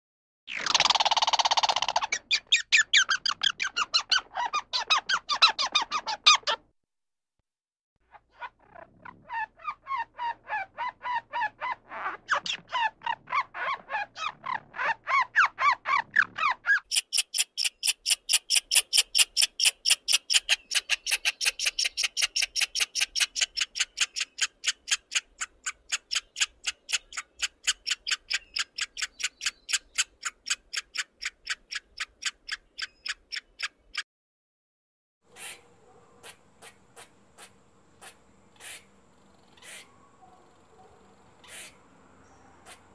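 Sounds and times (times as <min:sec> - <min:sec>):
squirrel chattering: 0:00.6 - 0:06.6, 0:08.6 - 0:34.0, 0:36.2 - 0:39.9, 0:41.4 - 0:41.8.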